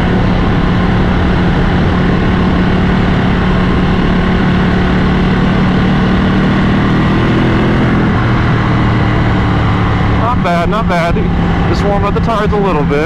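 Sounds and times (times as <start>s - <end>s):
motorcycle engine running: 0.0s - 13.0s
wind rush: 0.0s - 13.0s.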